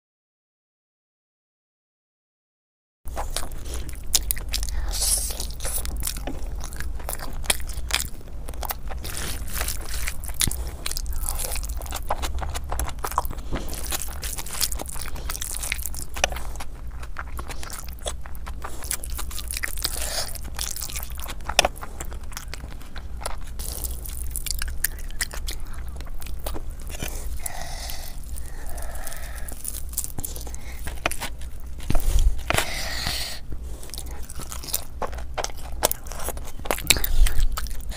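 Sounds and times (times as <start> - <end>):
wet chewing: 3.1 - 37.9.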